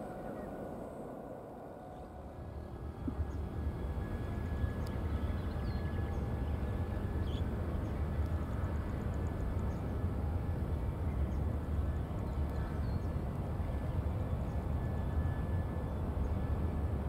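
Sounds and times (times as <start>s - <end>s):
faint engine whine: 0.0s - 17.0s.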